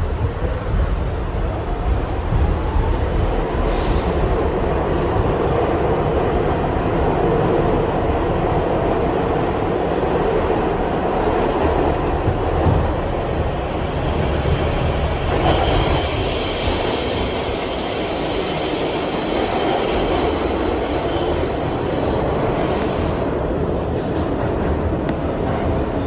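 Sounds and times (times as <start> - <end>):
subway train rumbling on rails: 0.0 - 26.0.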